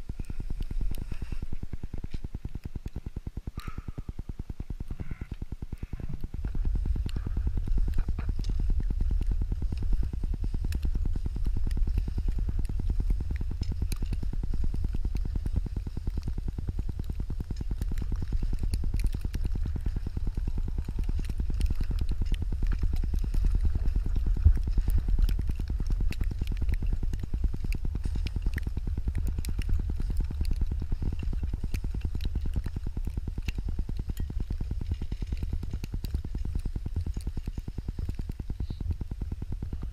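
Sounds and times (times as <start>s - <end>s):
wind buffeting microphone: 3.6s - 39.9s
skis sliding over snow: 5.8s - 39.9s.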